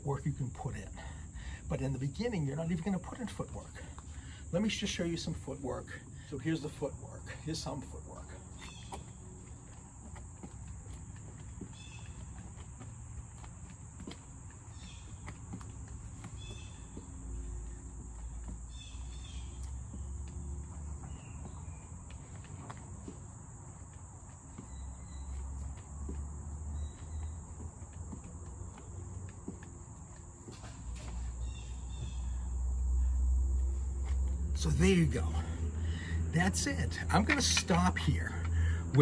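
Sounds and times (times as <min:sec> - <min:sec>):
insects chirring: 0:00.0 - 0:39.0
footsteps on concrete: 0:01.8 - 0:35.8, 0:36.5 - 0:39.0.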